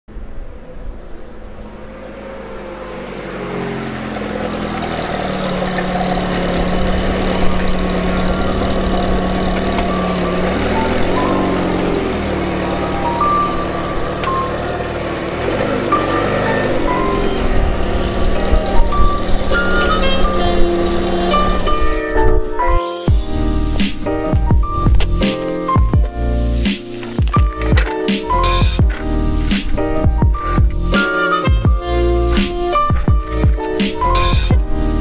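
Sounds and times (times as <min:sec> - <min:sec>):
car engine running: 0:00.1 - 0:35.0.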